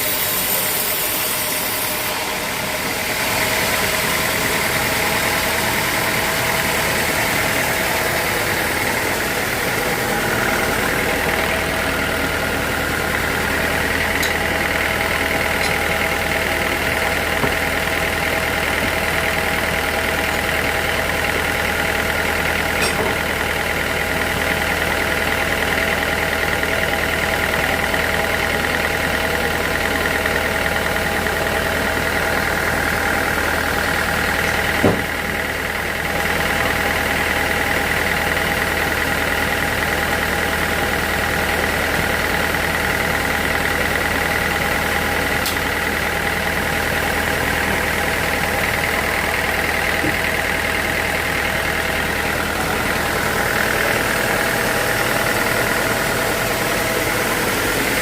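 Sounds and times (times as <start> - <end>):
sawmill machinery drone with whine: 0.0 - 58.0.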